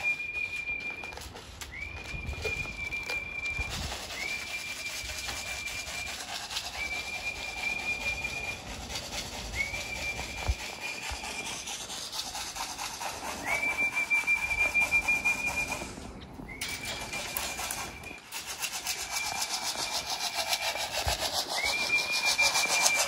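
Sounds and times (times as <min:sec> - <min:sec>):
person whistling high-pitched: 0:00.0 - 0:12.2, 0:13.0 - 0:23.0.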